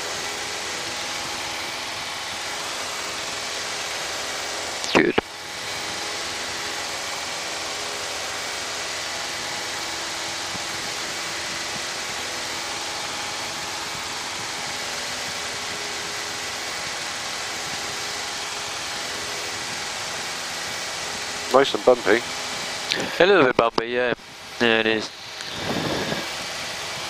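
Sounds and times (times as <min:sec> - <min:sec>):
aircraft engine and propeller drone: 0:00.0 - 0:27.0.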